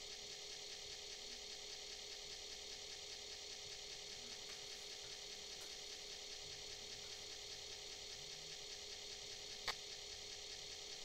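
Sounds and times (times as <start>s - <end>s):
disk drive motor hum: 0.0s - 11.0s.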